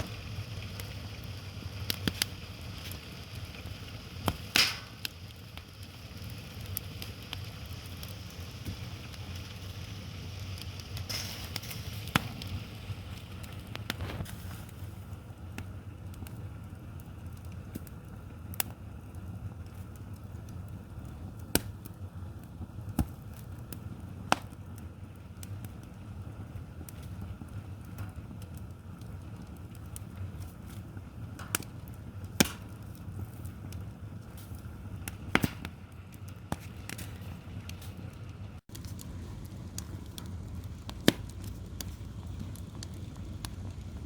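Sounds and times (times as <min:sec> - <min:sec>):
fire low rumble: 0:00.0 - 0:44.0
firewood popping and snapping: 0:00.0 - 0:44.0.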